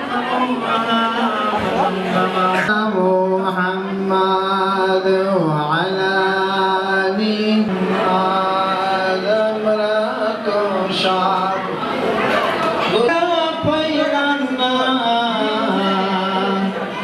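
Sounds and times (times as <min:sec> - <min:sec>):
man chanting over loudspeaker: 0:00.0 - 0:12.1, 0:12.8 - 0:17.0.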